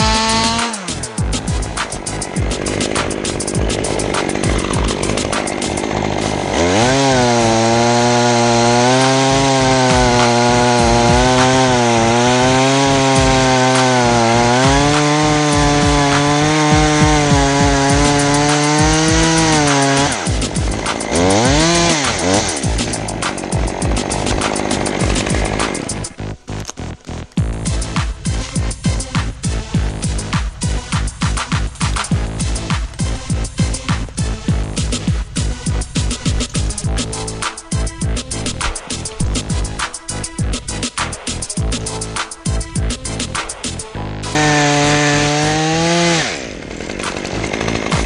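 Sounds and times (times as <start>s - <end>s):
chainsaw idling and revving: 0.0s - 48.0s.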